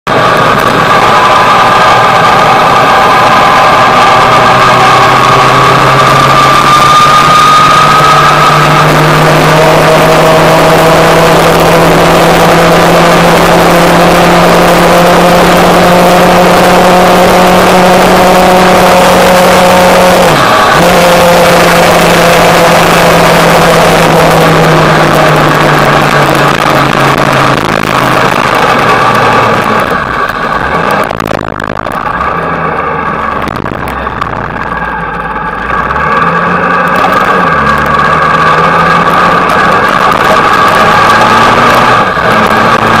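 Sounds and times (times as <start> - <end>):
motorcycle engine running: 0.1 - 43.0.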